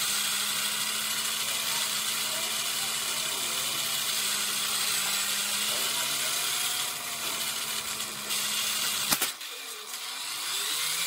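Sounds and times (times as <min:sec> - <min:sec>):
electric toy car motor whirring: 0:00.0 - 0:11.0.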